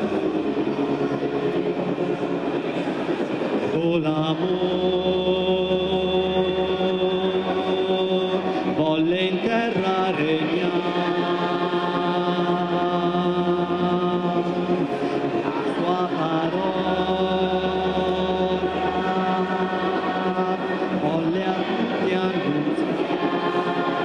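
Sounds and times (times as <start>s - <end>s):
slow hymn singing: 0.0s - 24.0s.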